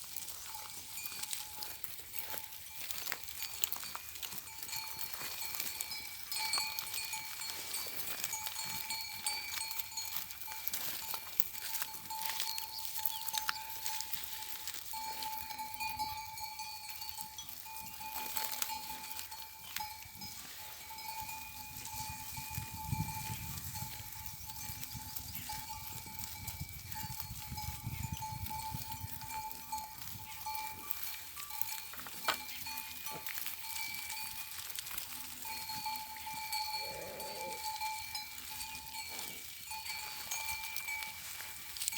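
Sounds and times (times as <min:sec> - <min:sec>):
livestock bells clanking: 0:00.0 - 0:41.9.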